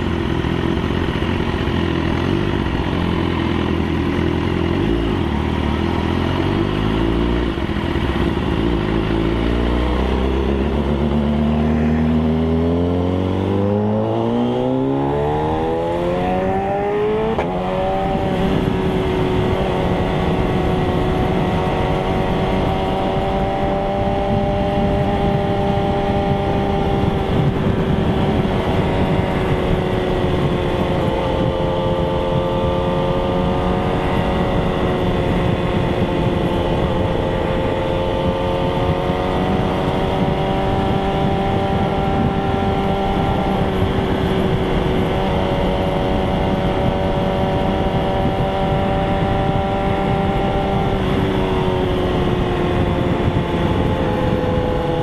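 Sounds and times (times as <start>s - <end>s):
motorcycle engine accelerating: 0.0s - 55.0s
wind rushing over microphone: 0.0s - 55.0s.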